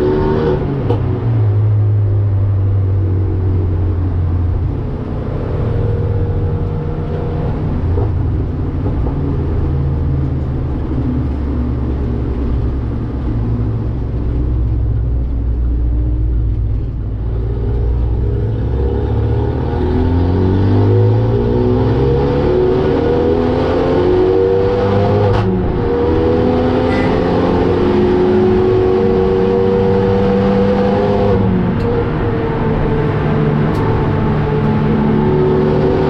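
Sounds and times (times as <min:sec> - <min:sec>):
car engine accelerating: 0:00.0 - 0:36.0
road and tyre noise: 0:00.0 - 0:36.0.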